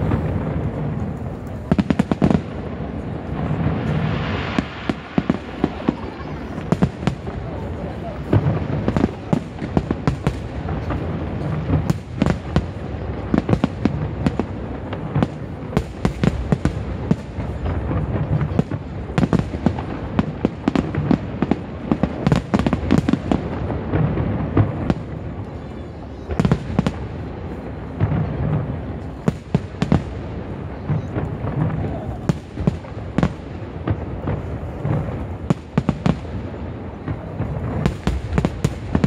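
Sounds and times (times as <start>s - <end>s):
fireworks bursts and crackling: 0.0s - 39.0s.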